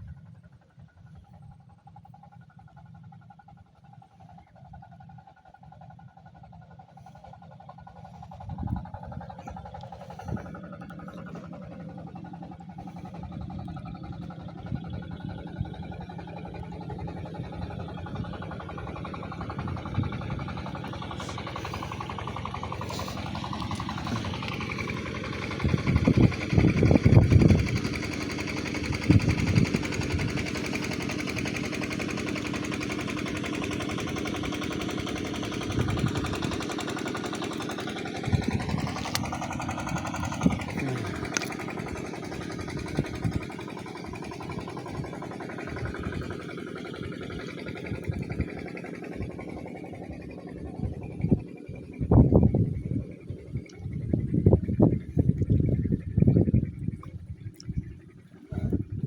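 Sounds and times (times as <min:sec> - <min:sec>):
small engine chugging: 0:00.0 - 0:59.0.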